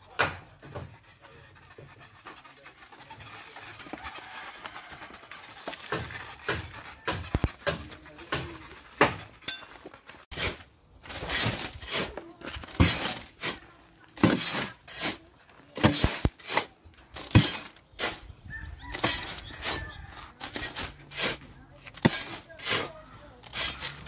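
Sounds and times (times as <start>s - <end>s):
shovel scraping gravel: 0.4s - 18.3s, 18.9s - 24.0s
gravel rattling into wheelbarrow: 1.0s - 17.9s, 18.8s - 24.0s.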